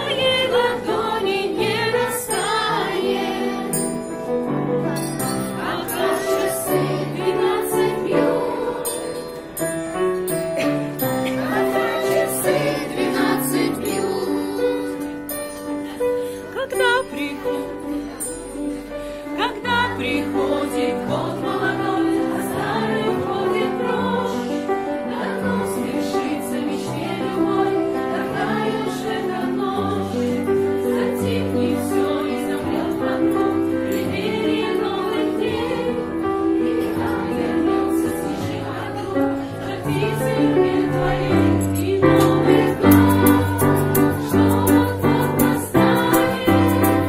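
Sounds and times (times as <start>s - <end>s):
group singing in unison: 0.0s - 4.1s, 5.3s - 9.6s, 10.6s - 15.3s, 19.4s - 47.0s
grand piano: 0.0s - 47.0s.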